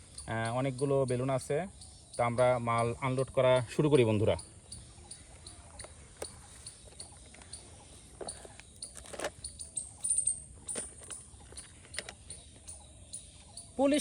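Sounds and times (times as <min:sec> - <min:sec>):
faint high-pitched chirping: 0:00.0 - 0:14.0.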